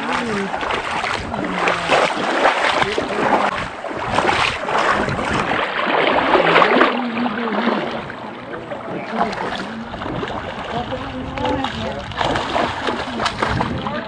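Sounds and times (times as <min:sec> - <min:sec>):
water splashing from wading: 0:00.0 - 0:14.0.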